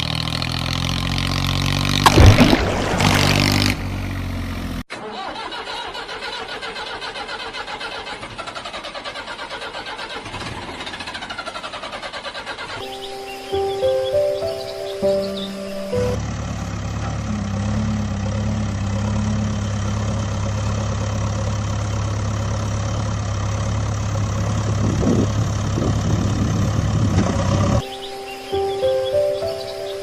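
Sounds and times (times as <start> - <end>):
engine idling: 3.4 - 30.0.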